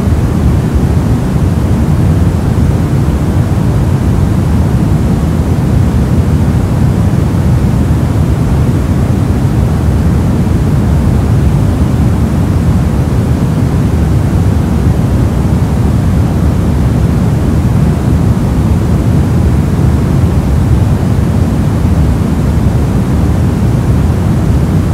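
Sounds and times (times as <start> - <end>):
deep steady noise: 0.0 - 24.9.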